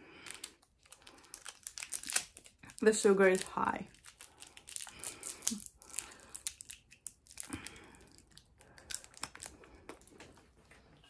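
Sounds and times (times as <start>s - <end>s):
candy wrapper crinkling and tearing: 0.0s - 10.4s.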